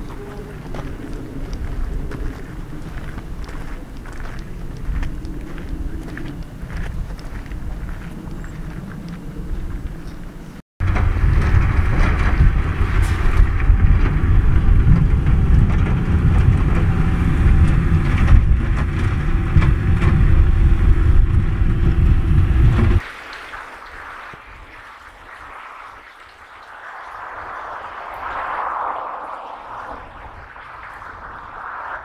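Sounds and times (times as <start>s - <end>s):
wind buffeting microphone: 0.0s - 23.0s, 23.6s - 32.0s.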